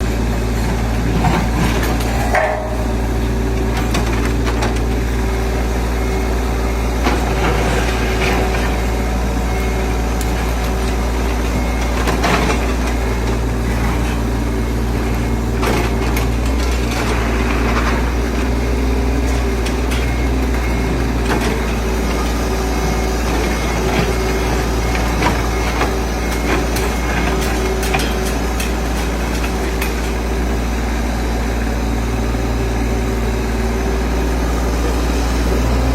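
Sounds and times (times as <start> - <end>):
heavy machinery engine idling: 0.0 - 35.9.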